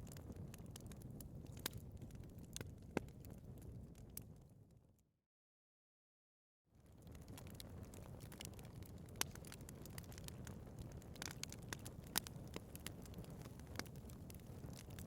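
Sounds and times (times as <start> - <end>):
wood fire crackling: 0.0 - 4.3, 6.8 - 15.0
fire popping and snapping: 0.0 - 4.4, 6.8 - 15.0.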